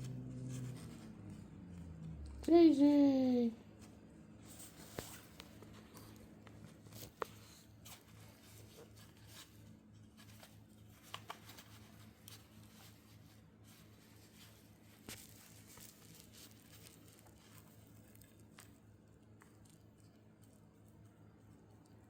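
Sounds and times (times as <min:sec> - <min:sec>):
faint room hum: 0:00.0 - 0:22.0
soft clicks and rustles: 0:03.6 - 0:22.0.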